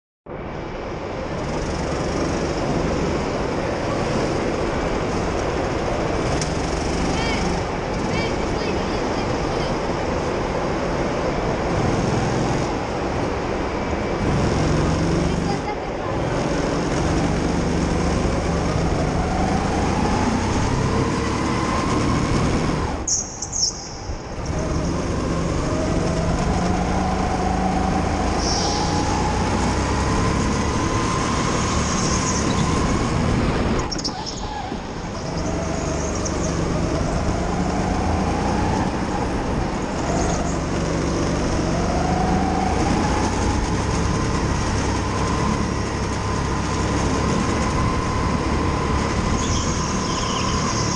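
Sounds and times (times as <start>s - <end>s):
go-kart motor revving: 1.2s - 23.2s, 24.2s - 50.9s.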